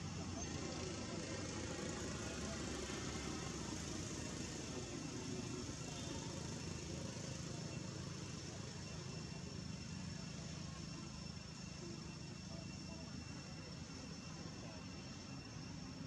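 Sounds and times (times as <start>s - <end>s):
distant road traffic rumble: 0.0s - 16.0s
faint high whine: 0.0s - 16.0s.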